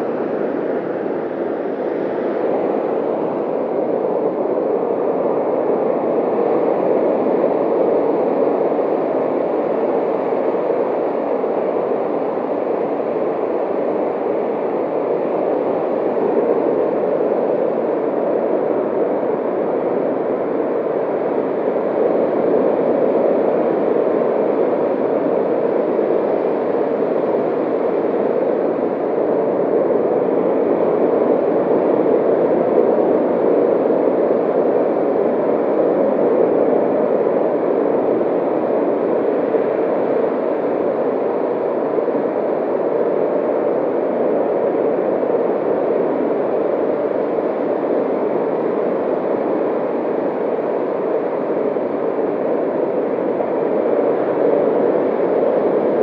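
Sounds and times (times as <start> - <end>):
muffled rushing hiss in seashell: 0.0 - 56.0.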